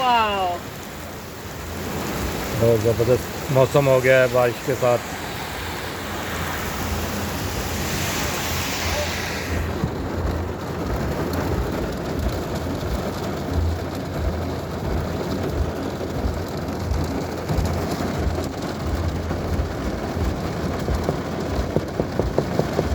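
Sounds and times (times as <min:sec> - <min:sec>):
heavy rain falling: 0:00.0 - 0:22.9
wind buffeting microphone: 0:00.0 - 0:22.9.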